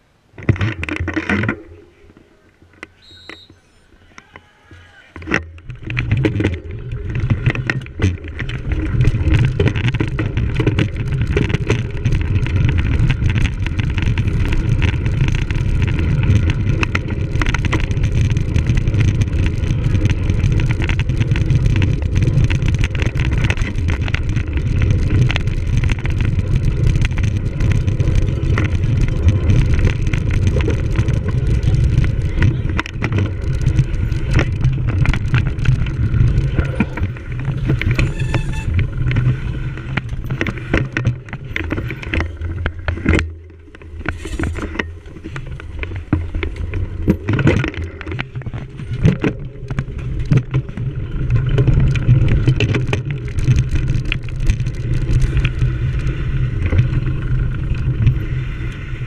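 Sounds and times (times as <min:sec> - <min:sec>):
bicycle rattling and clicking: 0:05.2 - 0:59.0
wind rumble on microphone: 0:05.2 - 0:59.0.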